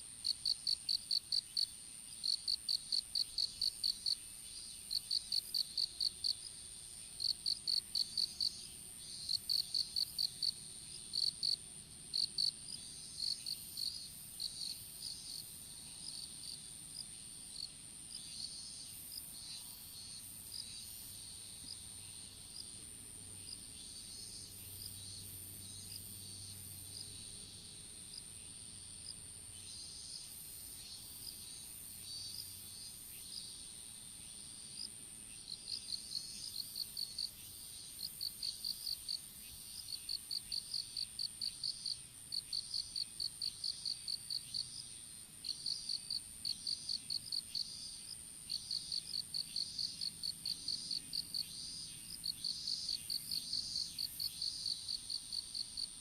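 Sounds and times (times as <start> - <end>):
high steady insect trill: 0.0 - 56.0
insect chirping in rapid pulses: 0.2 - 16.6, 23.5 - 56.0.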